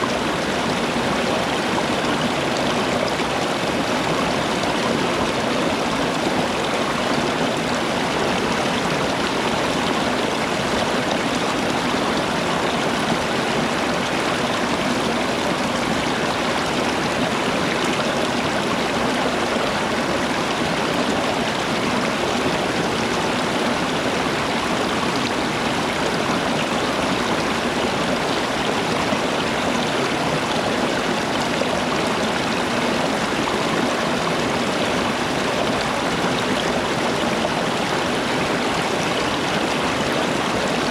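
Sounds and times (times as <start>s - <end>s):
stream of water running: 0.0s - 40.9s.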